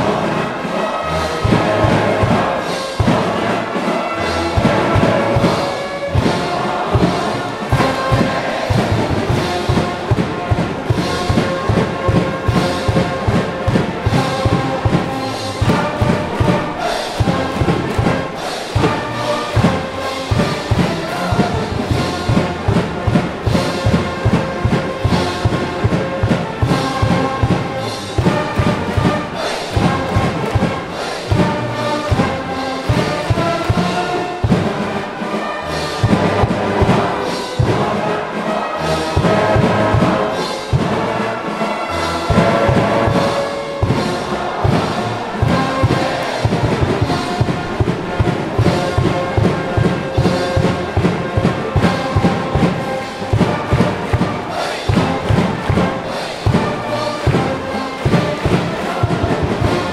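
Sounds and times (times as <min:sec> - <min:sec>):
brass band playing: 0:00.0 - 0:59.9
steady drum beat: 0:00.0 - 0:59.9
trumpets and trombones: 0:00.0 - 0:59.9.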